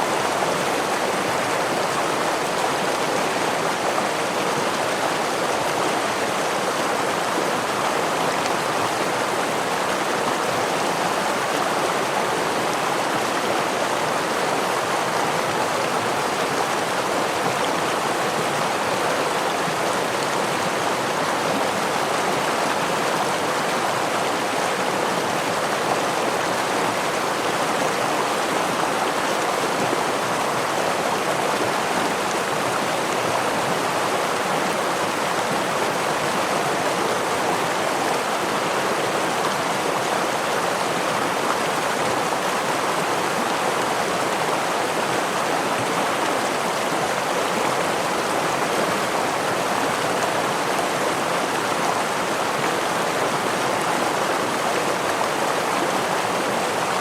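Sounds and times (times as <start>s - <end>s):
stream and waterfall rushing: 0.0s - 57.0s.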